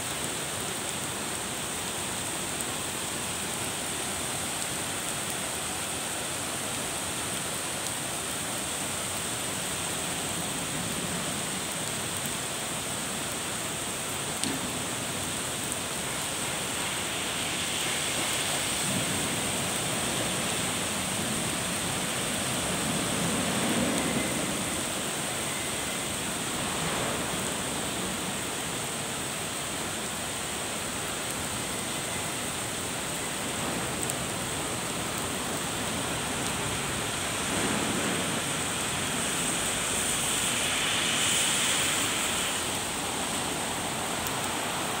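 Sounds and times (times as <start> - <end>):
steady rain on pavement: 0.0 - 45.0.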